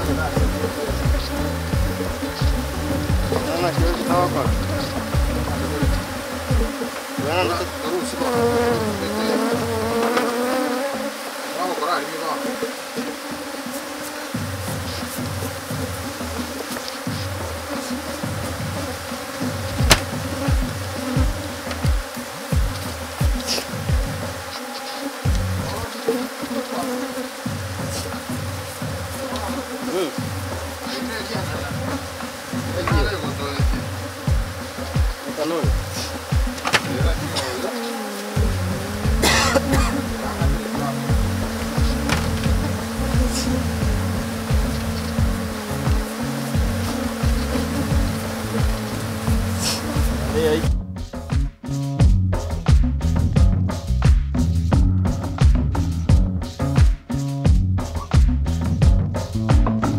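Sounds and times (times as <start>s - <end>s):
honeybees buzzing: 0.0s - 50.7s.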